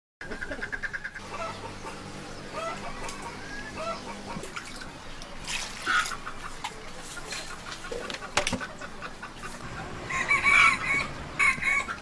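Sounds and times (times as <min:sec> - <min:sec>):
chickens clucking: 0:00.2 - 0:12.0.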